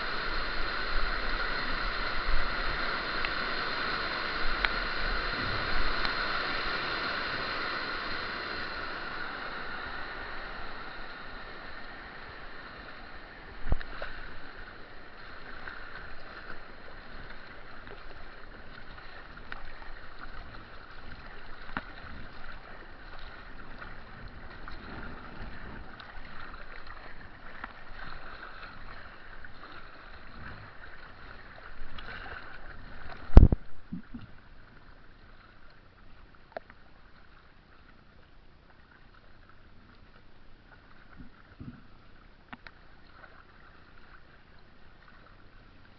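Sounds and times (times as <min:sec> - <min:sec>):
water rushing around kayak: 0:00.0 - 0:45.9.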